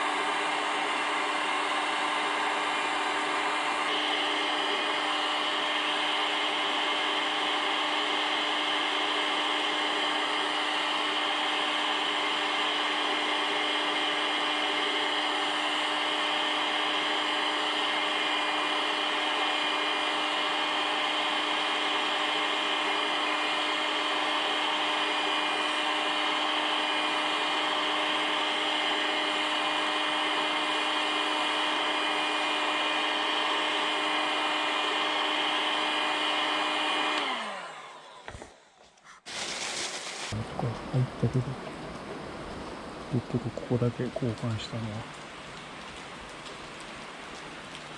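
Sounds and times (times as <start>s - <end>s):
electric motor fan whirring: 0.0s - 38.6s, 39.2s - 47.9s.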